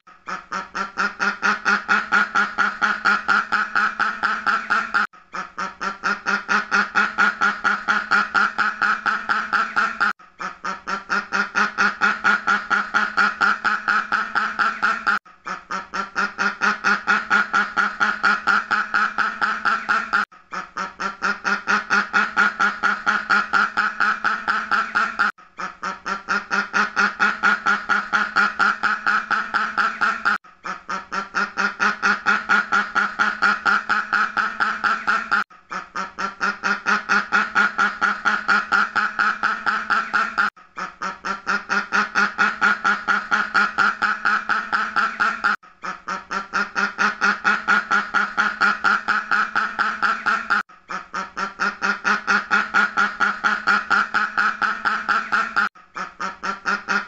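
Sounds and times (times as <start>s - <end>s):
duck quacking: 0.1s - 57.0s.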